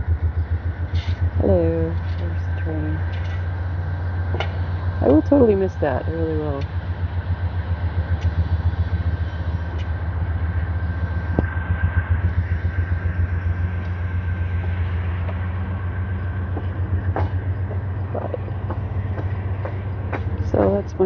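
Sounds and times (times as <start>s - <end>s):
diesel locomotives rumbling past: 0.0s - 21.0s.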